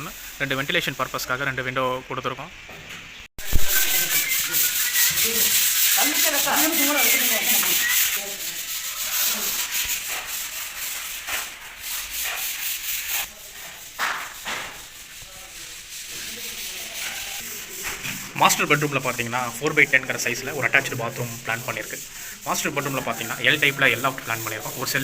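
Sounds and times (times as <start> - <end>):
sandpaper rubbing on wall: 3.4 - 25.0.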